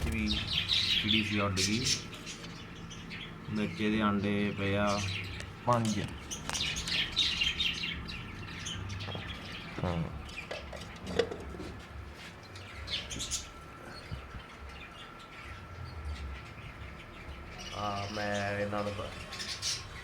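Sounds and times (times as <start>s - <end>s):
budgerigars chirping: 0.0s - 20.0s
faint steady hum: 0.0s - 20.0s.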